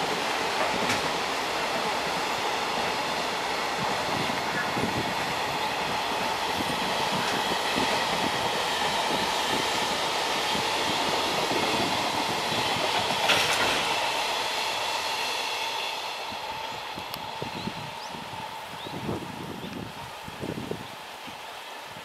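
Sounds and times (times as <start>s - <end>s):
train wheels rumbling and clattering: 0.0s - 20.0s.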